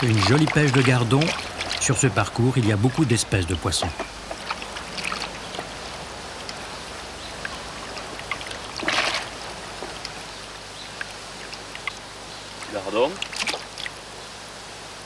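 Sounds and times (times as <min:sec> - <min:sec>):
water splashing in a plastic bucket: 0:00.0 - 0:14.0
water drips: 0:00.0 - 0:14.1.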